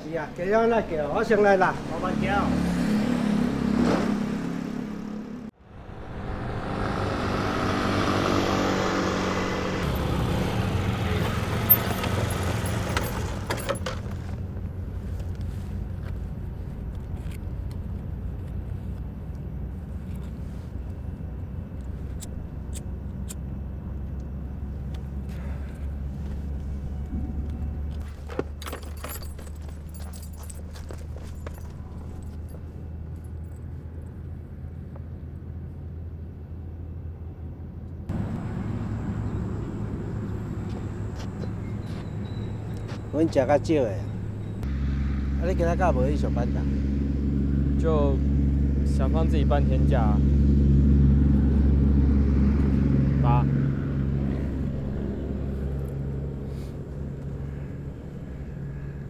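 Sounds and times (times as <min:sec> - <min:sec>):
vehicle engine humming: 0:00.0 - 0:59.0.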